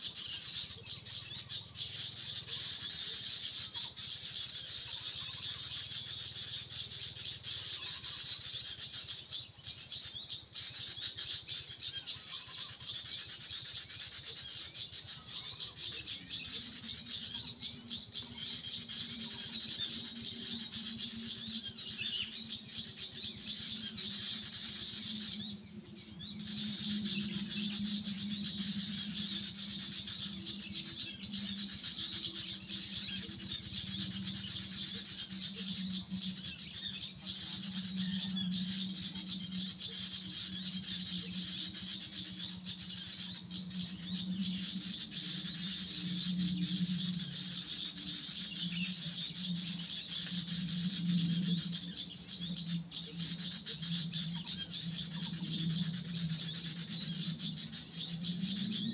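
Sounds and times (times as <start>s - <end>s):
birds chirping: 0.0s - 58.9s.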